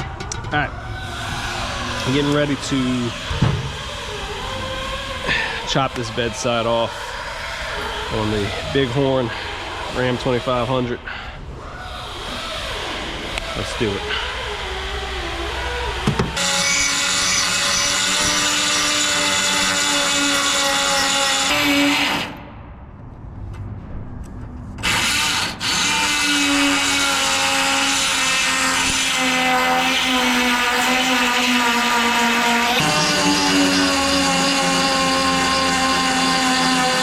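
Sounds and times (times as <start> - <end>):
power tool cutting steel: 1.0 - 11.0, 12.2 - 22.4, 24.8 - 37.0.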